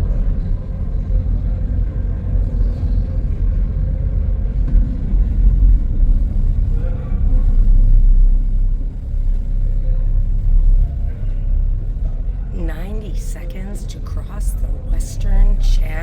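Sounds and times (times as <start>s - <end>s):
faint machinery hum: 0.0s - 16.0s
ferry engine rumble: 0.0s - 16.0s.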